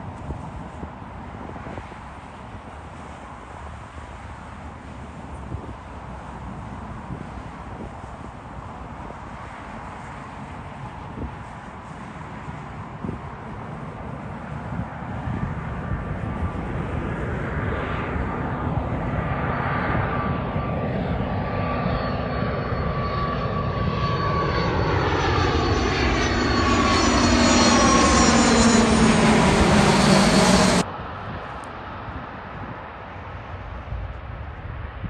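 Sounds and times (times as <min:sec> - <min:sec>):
distant jet rush: 0:00.0 - 0:35.0
jet engine whine and rush: 0:00.0 - 0:35.0.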